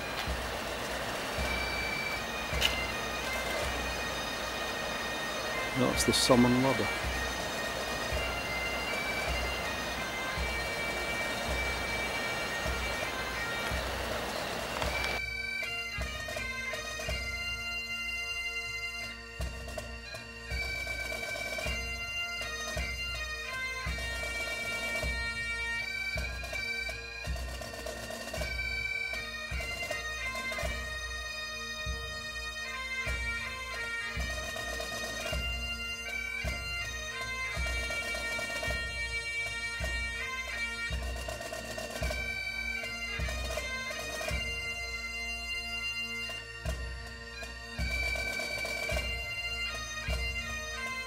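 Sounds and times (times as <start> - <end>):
bagpipes playing quick tune: 0.0 - 51.0.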